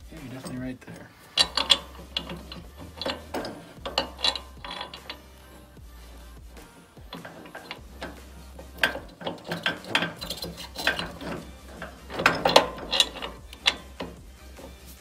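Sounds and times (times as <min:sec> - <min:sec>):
metal knocks: 0:00.0 - 0:06.0, 0:06.6 - 0:15.0
ratchet wrench clicking: 0:00.1 - 0:15.0.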